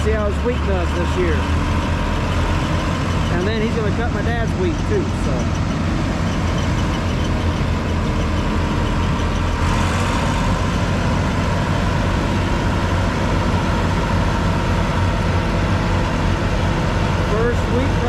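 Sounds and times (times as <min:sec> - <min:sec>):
combine engine drone: 0:00.0 - 0:18.0.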